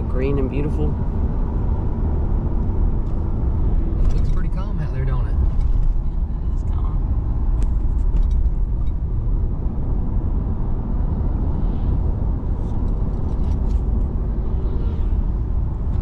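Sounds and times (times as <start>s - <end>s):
vehicle interior rumble: 0.0s - 16.0s.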